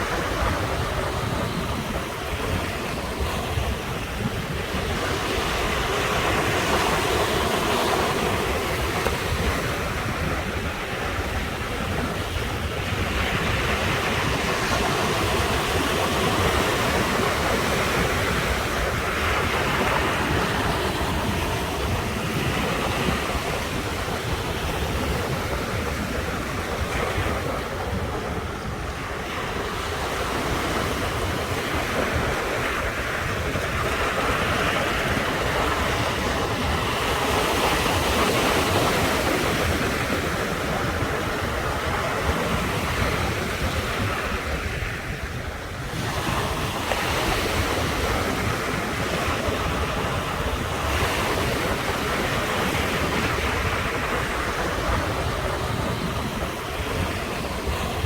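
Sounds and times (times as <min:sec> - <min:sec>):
ocean waves breaking on shore: 0:00.0 - 0:58.0
wind on microphone: 0:00.0 - 0:58.0.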